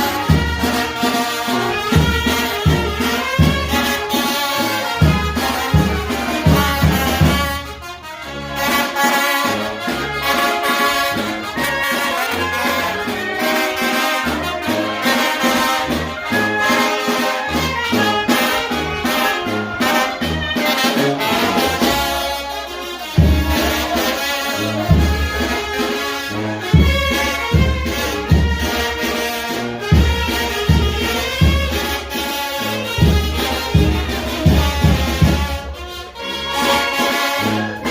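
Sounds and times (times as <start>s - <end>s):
brass band playing: 0.0s - 37.9s.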